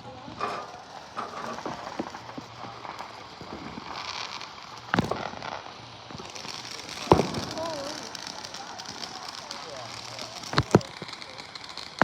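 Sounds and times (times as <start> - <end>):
fireworks hissing crackle: 0.0 - 12.0
firecracker bang: 0.3 - 12.0
small pops: 1.2 - 5.5, 6.1 - 12.0.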